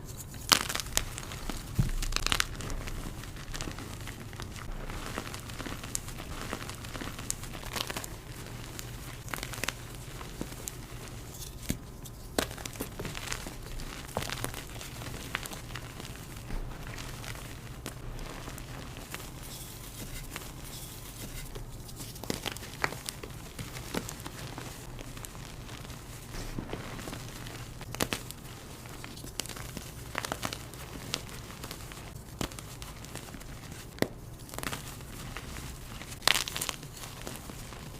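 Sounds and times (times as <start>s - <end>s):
chalk pieces cracking: 0.0s - 37.9s.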